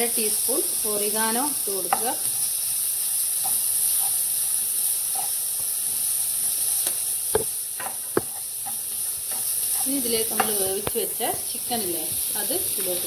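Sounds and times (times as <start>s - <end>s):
vegetables sizzling in oil: 0.0s - 13.0s
spatula stirring and scraping pan: 1.0s - 13.0s.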